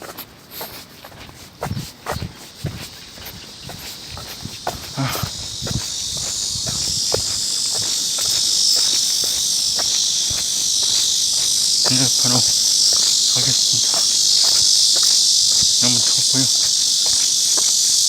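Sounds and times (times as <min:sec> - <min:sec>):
cicadas buzzing: 0:00.0 - 0:18.0
footsteps ticking: 0:00.0 - 0:18.0.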